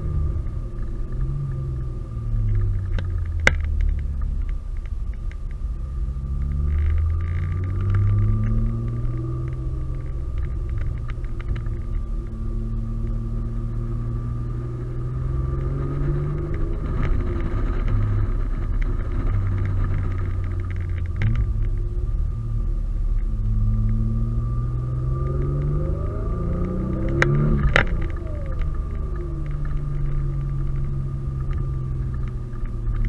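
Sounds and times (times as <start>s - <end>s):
car engine accelerating: 0.0s - 33.0s
road and exhaust rumble: 0.0s - 33.0s.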